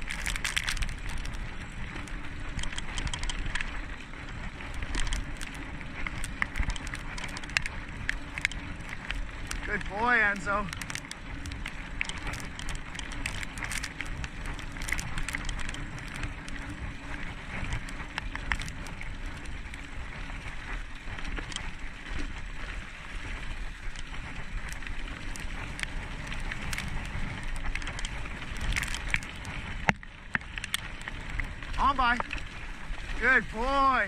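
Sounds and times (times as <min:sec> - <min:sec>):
bicycle tyres rolling on dirt: 0:00.0 - 0:34.0
small clicks and rattles: 0:00.0 - 0:34.0.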